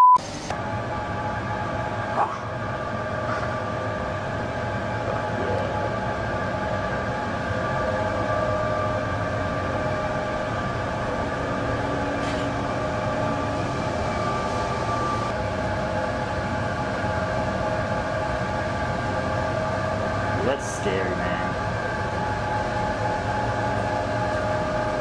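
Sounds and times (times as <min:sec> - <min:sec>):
film projectors running: 0:00.2 - 0:25.0.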